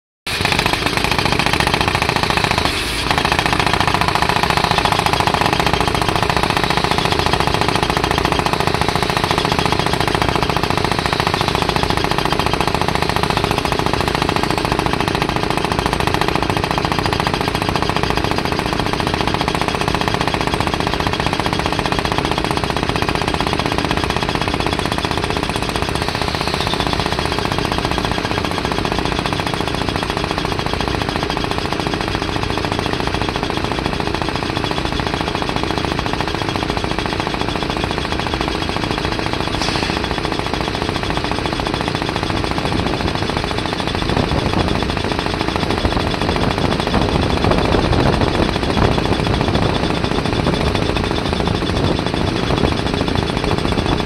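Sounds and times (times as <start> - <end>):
rock drill hammering: 0.3 - 54.0.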